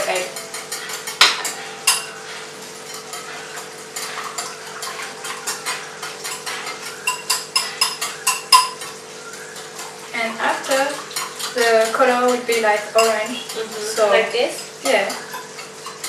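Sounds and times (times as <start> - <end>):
utensil clinking against bowl: 0.0 - 16.0.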